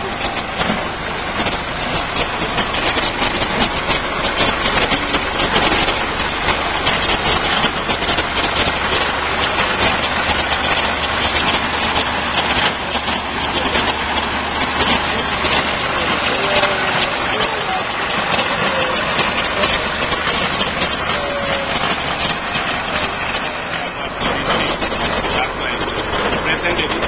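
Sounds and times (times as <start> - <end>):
low hum: 0.0 - 27.0
vehicle engine idling: 0.0 - 27.0.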